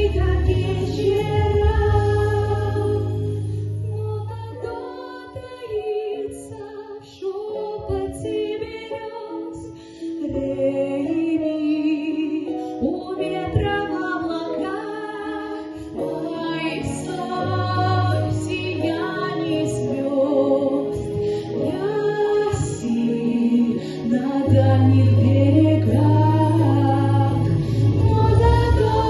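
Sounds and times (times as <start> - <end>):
instrumental backing track: 0.0 - 29.0
woman singing: 0.0 - 29.0.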